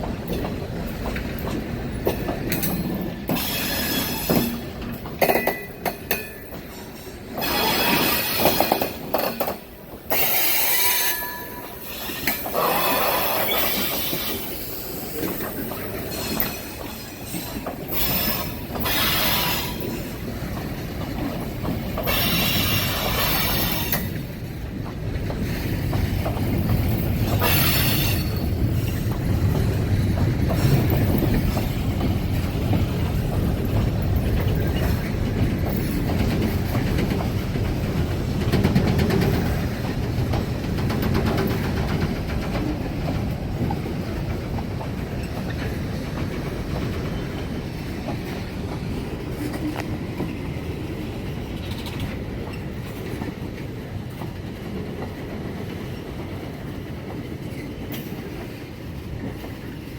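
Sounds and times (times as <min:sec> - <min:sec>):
freight train rolling past: 0:00.0 - 0:59.9
train wheels squealing and clattering: 0:00.0 - 0:59.9.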